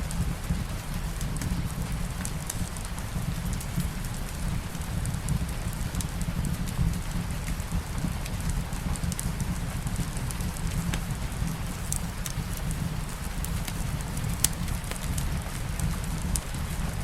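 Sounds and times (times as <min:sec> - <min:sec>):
constant low rumble: 0:00.0 - 0:17.0
steady rain: 0:00.0 - 0:17.0
wood fire crackling: 0:00.0 - 0:17.0.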